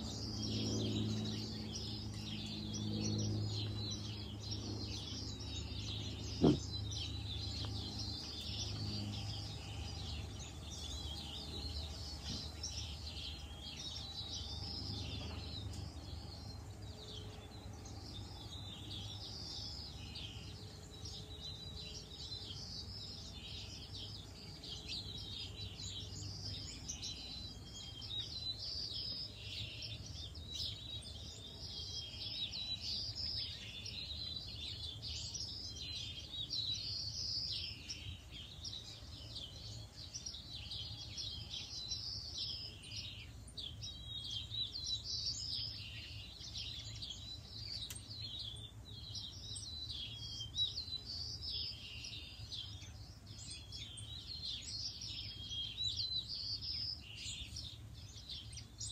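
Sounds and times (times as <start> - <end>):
songbirds chirping and twittering: 0.0 - 58.9.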